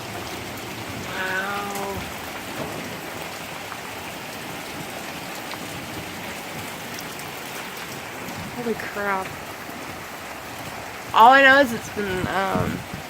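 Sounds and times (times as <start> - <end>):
heavy rain downpour: 0.0 - 13.0
raindrop ticks: 0.0 - 13.0.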